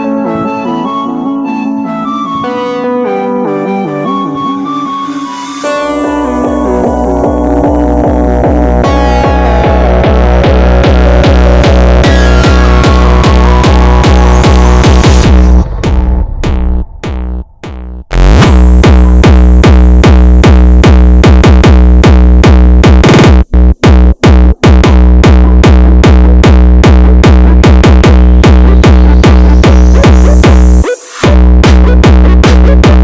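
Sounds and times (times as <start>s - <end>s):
synthesizer lines: 0.0s - 21.8s, 23.0s - 33.0s
drum machine kick: 5.7s - 33.0s.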